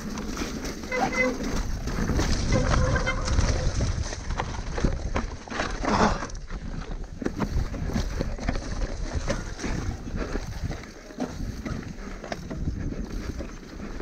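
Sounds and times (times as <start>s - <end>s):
bike knocks and rattles: 0.0s - 14.0s
tyres crunching over stones: 0.0s - 14.0s.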